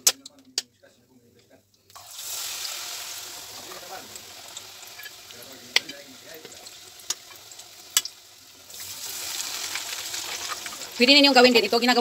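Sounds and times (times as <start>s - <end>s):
chicken sizzling in hot oil: 1.9s - 12.0s.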